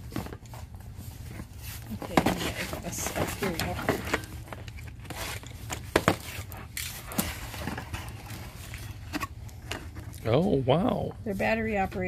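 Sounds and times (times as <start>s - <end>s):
plastic-wrapped contents rustling: 0.0s - 10.0s.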